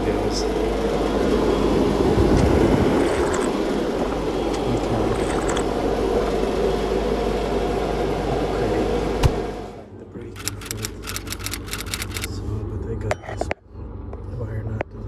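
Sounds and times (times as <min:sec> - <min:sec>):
cooler fan humming: 0:00.0 - 0:14.8.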